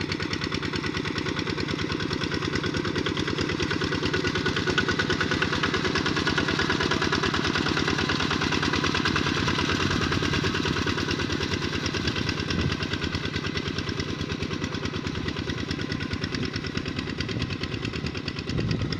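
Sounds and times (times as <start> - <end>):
tractor engine running: 0.0 - 18.9.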